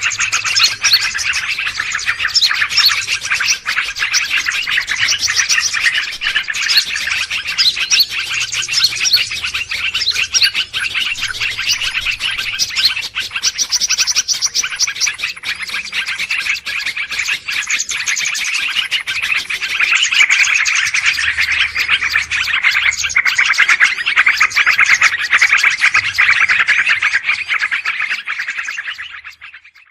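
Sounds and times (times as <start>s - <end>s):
small birds chirping and chattering: 0.0s - 29.9s.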